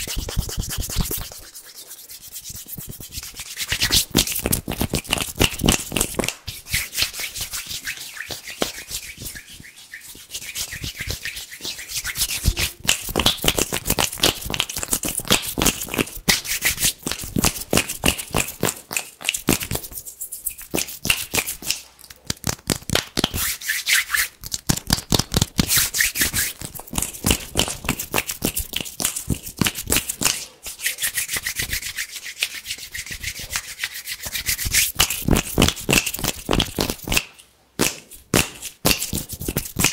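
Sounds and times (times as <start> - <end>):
hands rubbing skin: 0.0 - 39.9.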